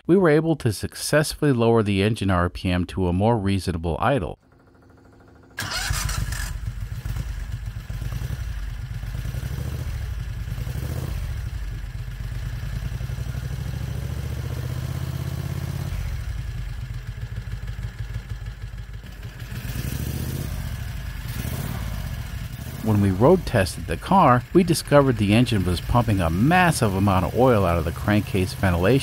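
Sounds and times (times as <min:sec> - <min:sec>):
engine idling: 0:04.4 - 0:29.0.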